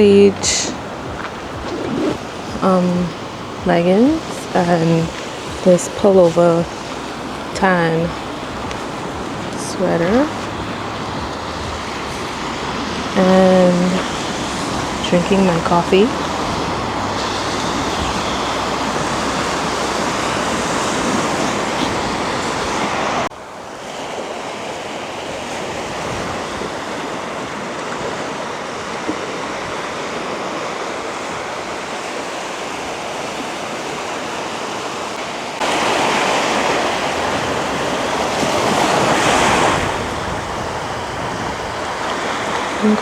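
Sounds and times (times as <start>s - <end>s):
ocean surf washing on shore: 0.0s - 43.0s.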